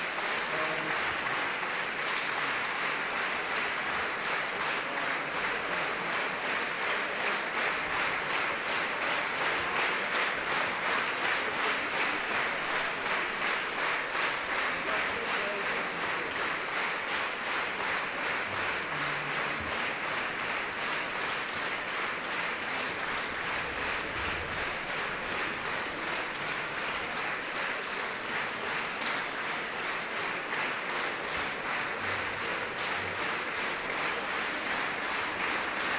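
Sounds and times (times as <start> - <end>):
audience clapping in unison: 0.0 - 35.9.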